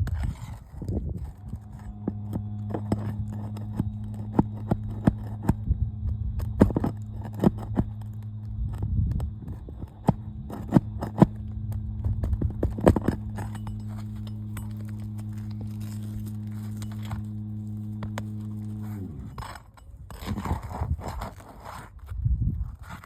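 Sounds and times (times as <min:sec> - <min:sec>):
tool scraping roof shingles: 0:00.0 - 0:05.7, 0:06.4 - 0:23.0
steady low hum: 0:00.0 - 0:23.0.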